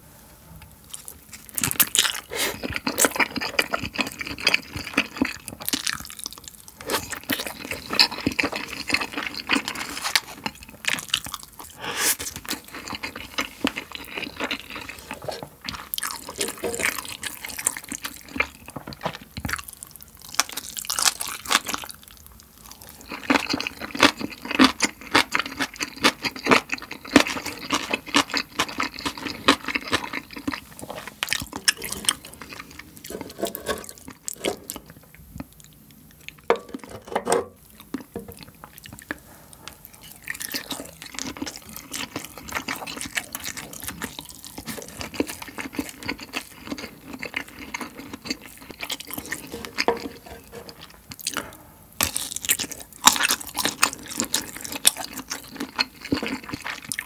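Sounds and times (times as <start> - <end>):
wet chewing and crunching: 0.9 - 37.1, 37.7 - 57.0.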